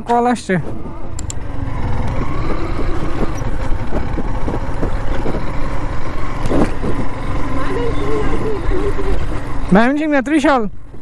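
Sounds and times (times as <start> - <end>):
motorcycle engine on dirt track: 0.0 - 11.0.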